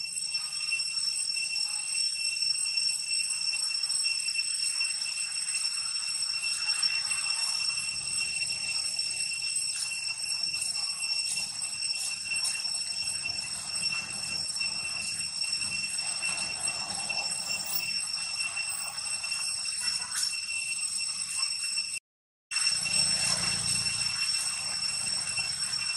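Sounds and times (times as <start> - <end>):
cicadas droning: 0.0 - 25.9.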